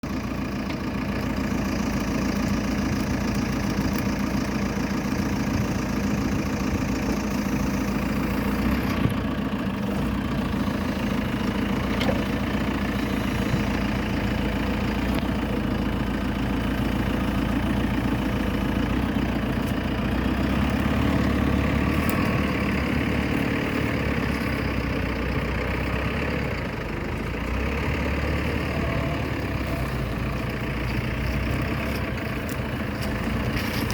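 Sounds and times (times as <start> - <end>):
backhoe diesel engine running: 0.0 - 33.9.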